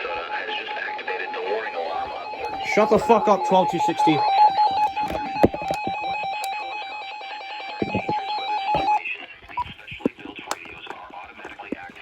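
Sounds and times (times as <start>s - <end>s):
weather radio alarm beep: 0.8s - 11.6s.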